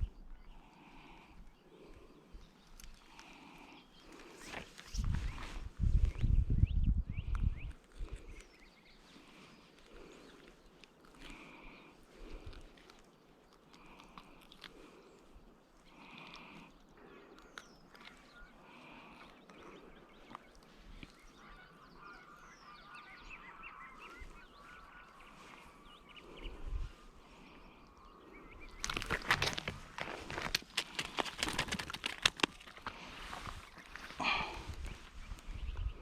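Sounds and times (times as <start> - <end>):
faint bird calls: 0.0 - 31.6, 32.8 - 36.0.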